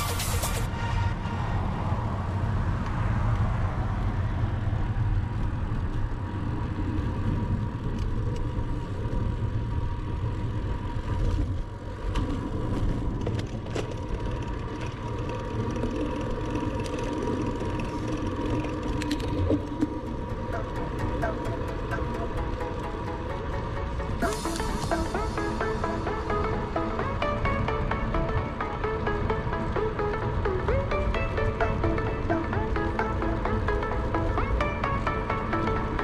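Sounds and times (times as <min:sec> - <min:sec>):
car passing: 0:00.0 - 0:36.0
road and tyre rumble: 0:00.0 - 0:36.0
wind rushing over microphone: 0:00.7 - 0:36.0.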